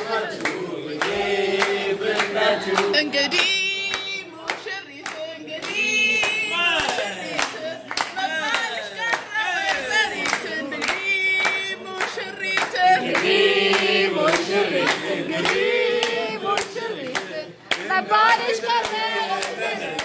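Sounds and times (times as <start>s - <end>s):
group of people singing: 0.0s - 20.0s
people clapping along: 0.0s - 20.0s.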